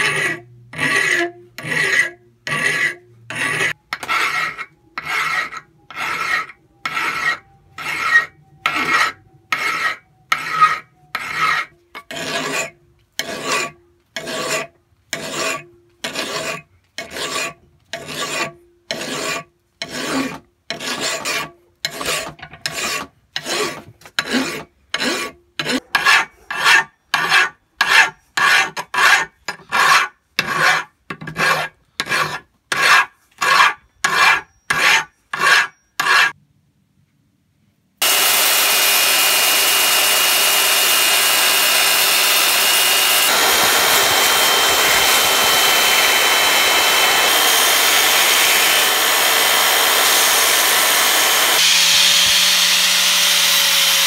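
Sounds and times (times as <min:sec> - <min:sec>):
hand file rasping on steel: 0:00.0 - 0:36.4, 0:38.0 - 0:52.6.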